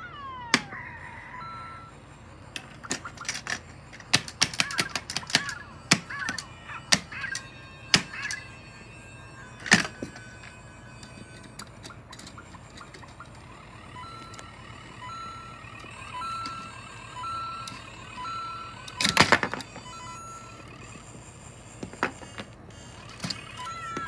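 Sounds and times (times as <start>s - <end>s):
electronic toy chirps and tones: 0.0s - 24.0s
plastic toy pieces clicking: 2.4s - 24.0s.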